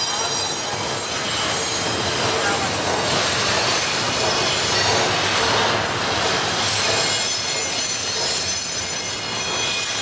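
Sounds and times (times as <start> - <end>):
wheels squealing against rails: 0.0 - 10.0.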